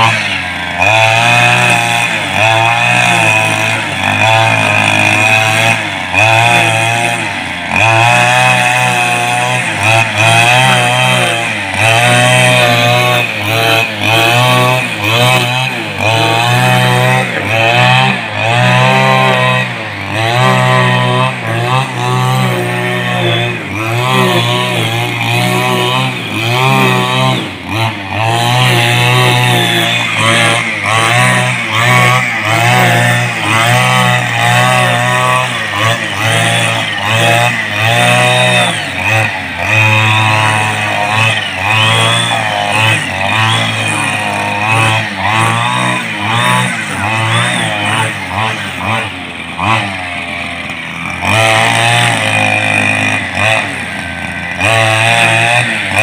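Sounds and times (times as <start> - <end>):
brush cutter engine revving: 0.0 - 56.0.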